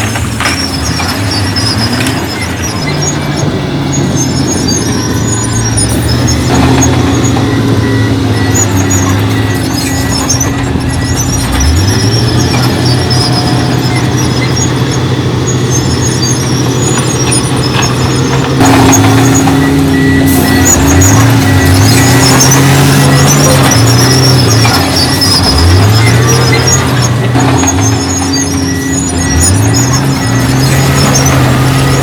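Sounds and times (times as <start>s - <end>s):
heavy machinery diesel engines: 0.0s - 32.0s
high squeaks: 0.0s - 32.0s.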